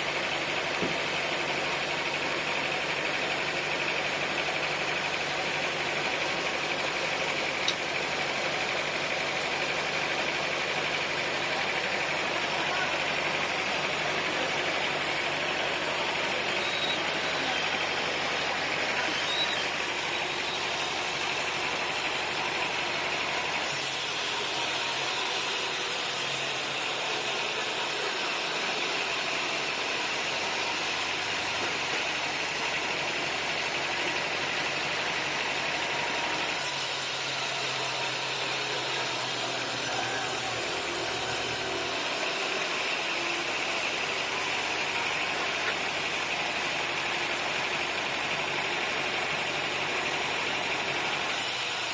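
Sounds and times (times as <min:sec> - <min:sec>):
sawmill machinery humming: 0:00.0 - 0:51.9.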